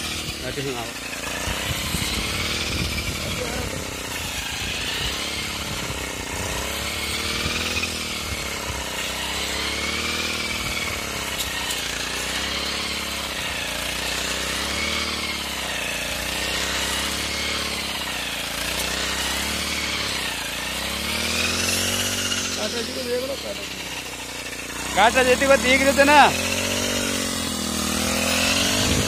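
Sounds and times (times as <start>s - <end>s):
brush cutter engine running: 0.0s - 29.0s.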